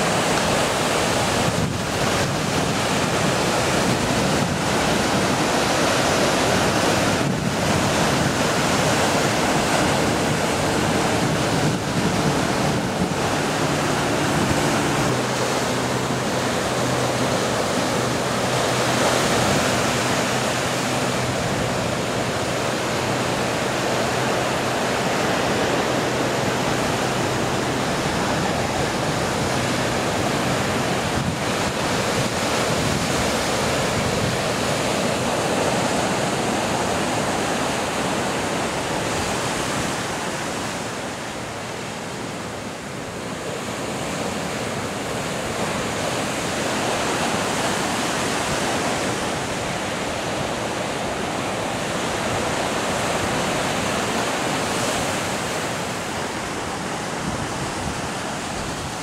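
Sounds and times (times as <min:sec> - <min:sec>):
sea surf breaking on rocks: 0:00.0 - 0:59.0.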